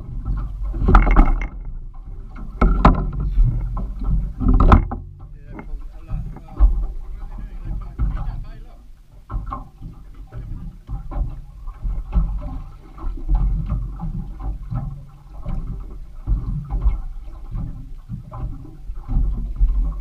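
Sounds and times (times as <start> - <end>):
water sloshing against boat hull: 0.0 - 20.0.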